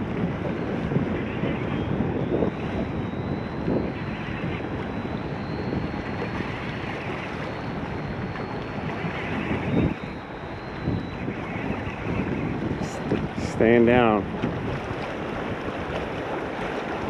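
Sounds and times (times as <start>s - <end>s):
waves on open water: 0.0s - 17.0s
wind rumbling on microphone: 0.0s - 17.0s.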